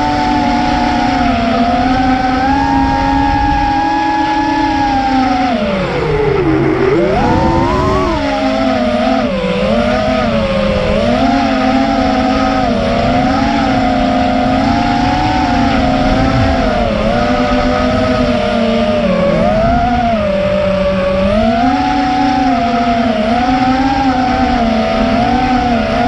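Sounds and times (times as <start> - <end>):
drone motors and propellers whining: 0.0 - 26.0.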